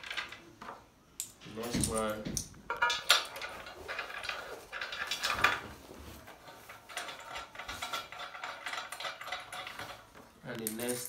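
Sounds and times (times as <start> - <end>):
nuts and washers clicking: 0.0 - 5.6, 6.4 - 11.0.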